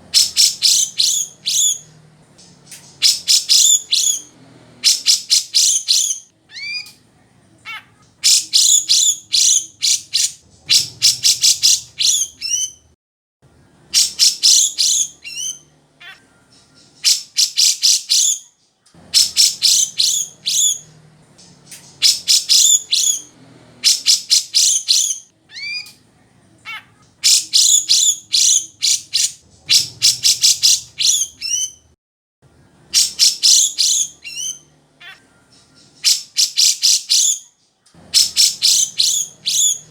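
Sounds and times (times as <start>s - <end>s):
bulbul singing: 0.0s - 12.9s, 13.5s - 26.0s, 26.7s - 31.9s, 32.5s - 39.9s.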